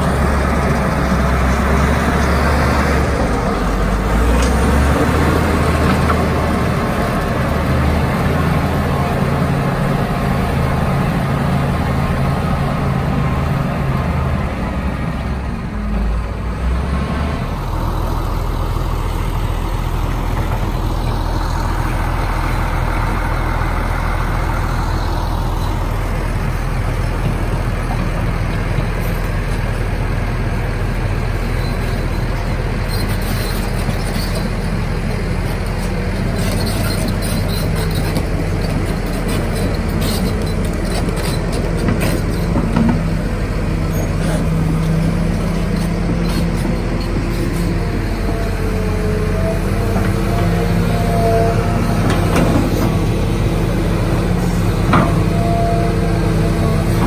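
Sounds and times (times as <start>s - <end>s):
heavy diesel machines running: 0.0s - 57.0s.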